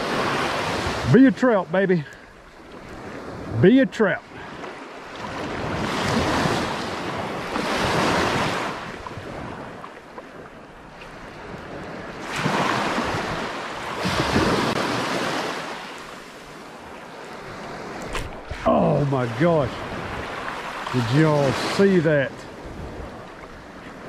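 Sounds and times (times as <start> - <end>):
surf breaking on beach: 0.0 - 2.1, 2.9 - 9.8, 11.3 - 23.8.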